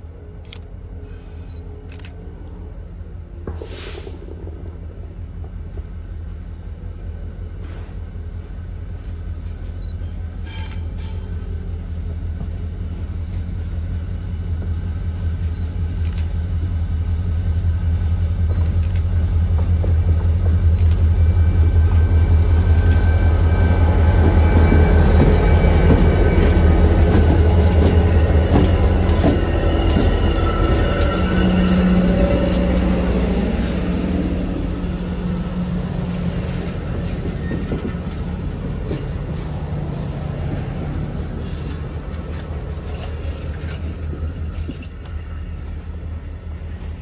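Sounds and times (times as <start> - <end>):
diesel locomotive engines droning: 0.0 - 47.0.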